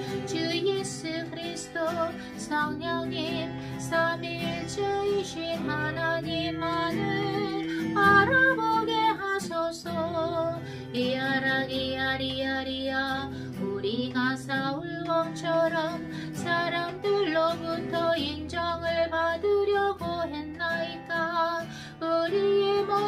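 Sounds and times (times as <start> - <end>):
acoustic guitar: 0.0 - 23.0
woman singing: 0.0 - 23.0.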